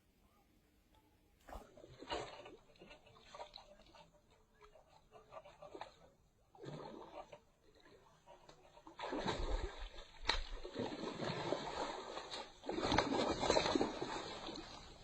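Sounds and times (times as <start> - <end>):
water splashing and sloshing: 1.4 - 15.0.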